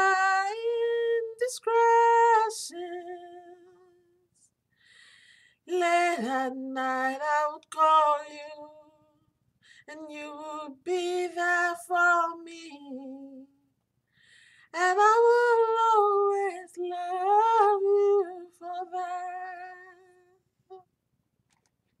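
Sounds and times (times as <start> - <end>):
woman singing unaccompanied: 0.0 - 4.2, 5.7 - 9.2, 9.8 - 13.6, 14.7 - 20.8.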